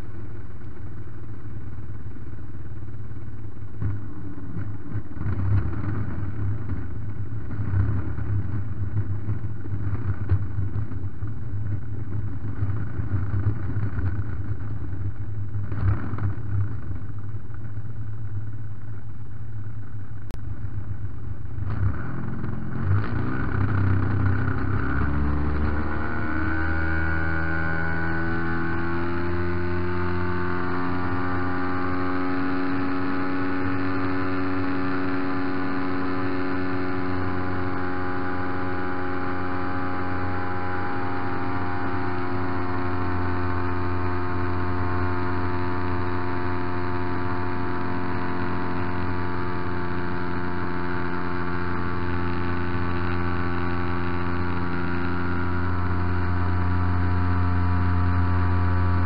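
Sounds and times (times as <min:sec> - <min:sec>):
model plane engine at full throttle: 0:00.0 - 0:59.0.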